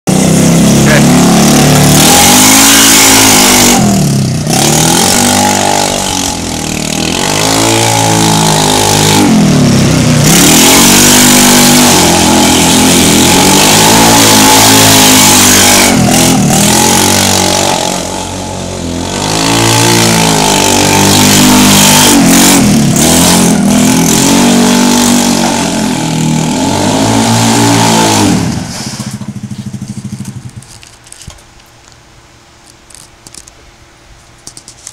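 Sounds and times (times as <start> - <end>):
buggy engine revving: 0.1 - 30.9.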